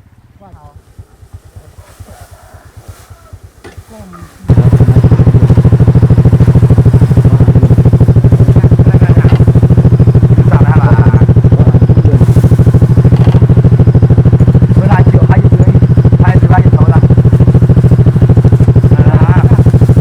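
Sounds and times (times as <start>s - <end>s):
small engine chugging: 0.0s - 20.0s.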